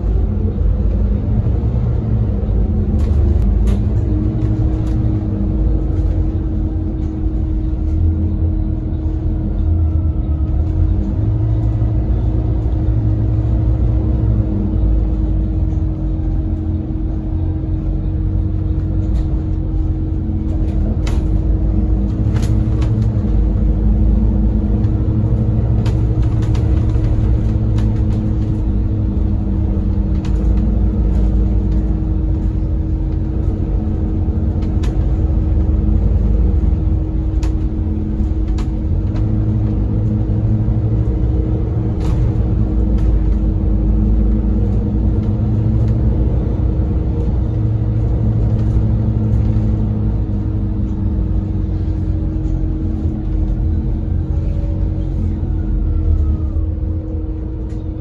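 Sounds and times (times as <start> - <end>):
bus diesel engine and road rumble: 0.0 - 58.0
steady hum: 0.0 - 58.0.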